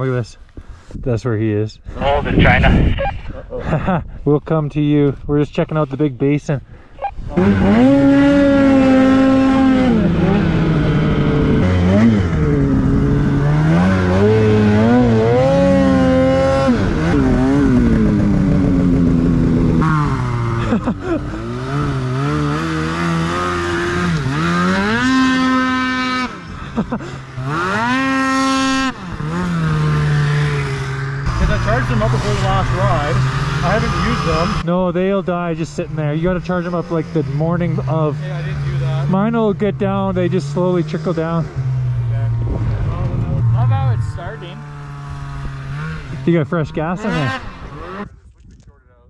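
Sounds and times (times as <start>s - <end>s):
snowmobile engine revving: 7.2s - 48.2s.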